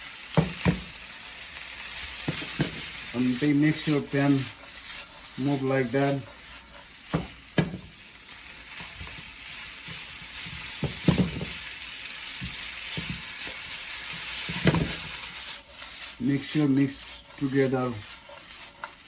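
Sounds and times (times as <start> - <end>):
food sizzling in a hot pan: 0.0 - 19.0
knocks of stirring in pan: 0.0 - 19.0.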